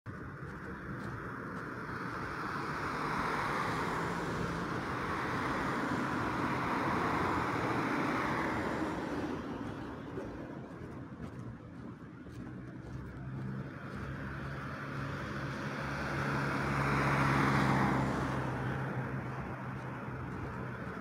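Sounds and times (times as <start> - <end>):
cars passing: 0.1 - 21.0.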